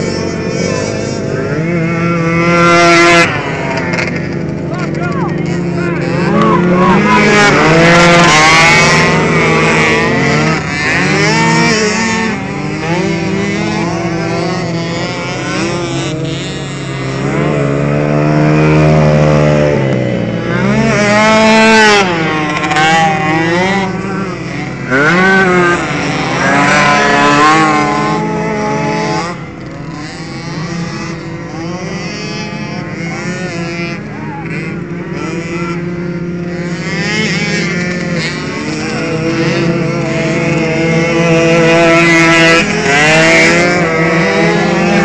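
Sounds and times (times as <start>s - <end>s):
motocross engines revving: 0.0s - 45.0s.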